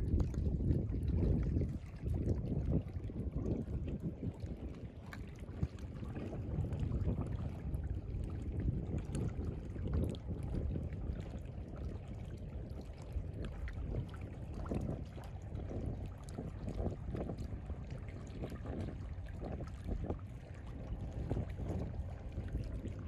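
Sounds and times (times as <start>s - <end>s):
water lapping among rocks: 0.0s - 23.0s
wind buffeting microphone: 0.0s - 23.0s.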